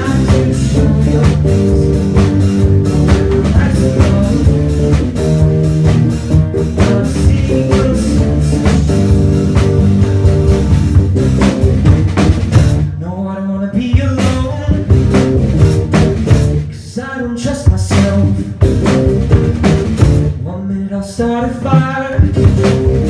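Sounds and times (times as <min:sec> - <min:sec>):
rock band playing: 0:00.0 - 0:13.2, 0:13.8 - 0:20.4, 0:21.3 - 0:23.0
drum kit beat: 0:00.0 - 0:23.0.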